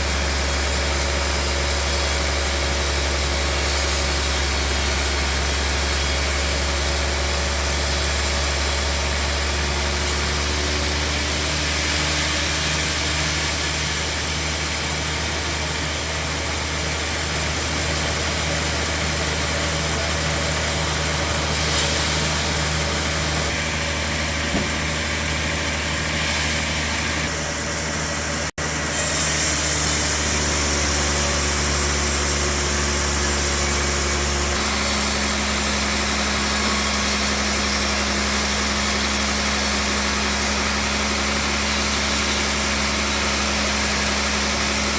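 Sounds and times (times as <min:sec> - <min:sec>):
sawmill machinery humming: 0:00.0 - 0:44.9.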